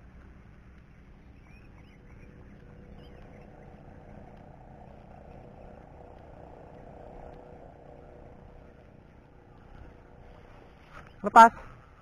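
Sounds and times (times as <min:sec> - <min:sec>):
steady hum: 0:00.0 - 0:12.0
wind rumble on microphone: 0:00.0 - 0:12.0.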